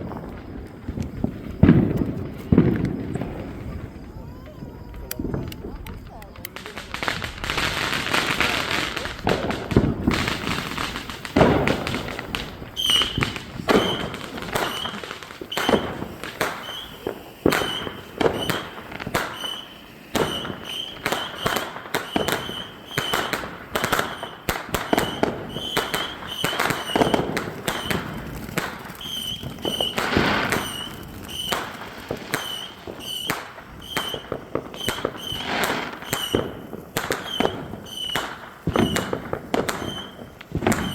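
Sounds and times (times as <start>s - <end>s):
fireworks bangs and pops: 0.0s - 40.9s.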